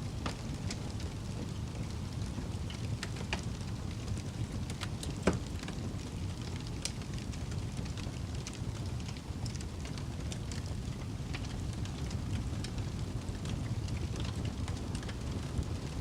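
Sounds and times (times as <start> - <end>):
campfire rumble: 0.0 - 16.0
fire crackles and pops: 0.0 - 16.0.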